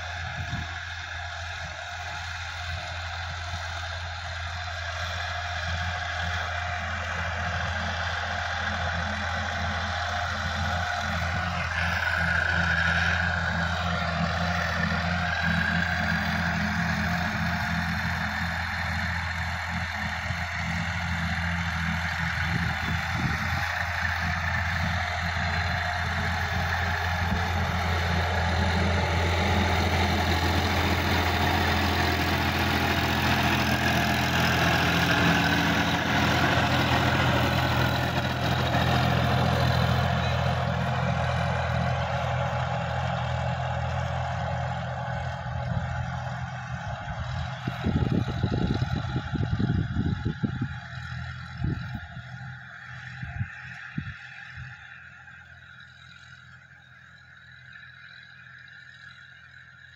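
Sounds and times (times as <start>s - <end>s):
tractor diesel engine: 0.0s - 59.9s.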